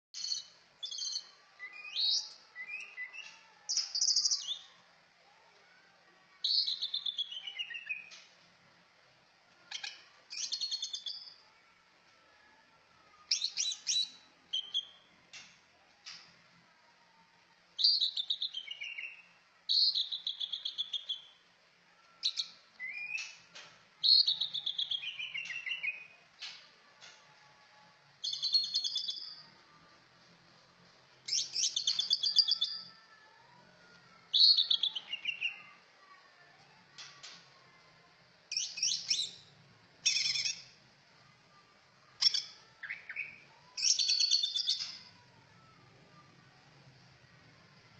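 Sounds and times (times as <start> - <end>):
songbird chirping and trilling: 0.2 - 47.9.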